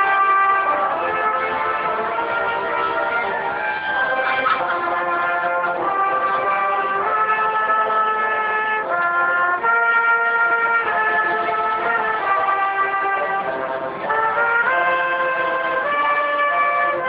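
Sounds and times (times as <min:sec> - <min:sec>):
brass band playing held notes: 0:00.0 - 0:17.0.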